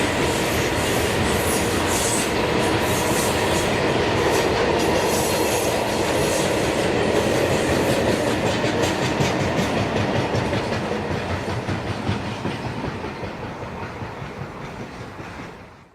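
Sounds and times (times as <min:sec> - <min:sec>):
train wheels clicking over rail joints: 0:00.0 - 0:15.9.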